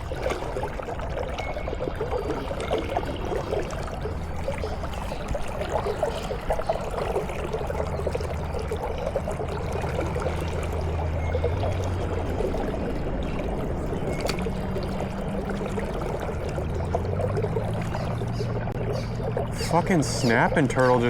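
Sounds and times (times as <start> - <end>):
river water babbling: 0.0 - 21.0
small splashes: 0.0 - 21.0
steady low hum: 0.0 - 21.0.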